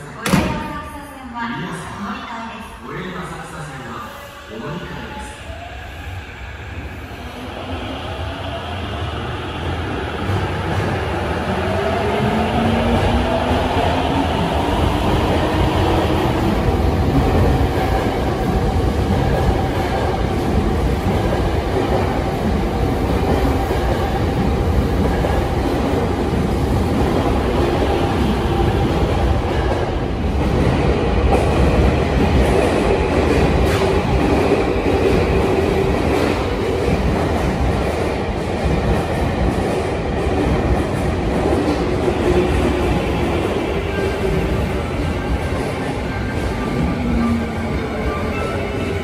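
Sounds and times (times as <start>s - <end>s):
train departing underground station: 0.0s - 49.0s.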